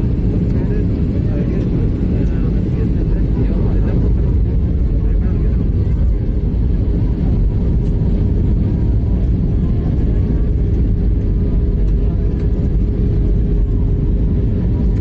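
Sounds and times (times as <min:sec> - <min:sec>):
jet cabin engine rumble: 0:00.0 - 0:15.0.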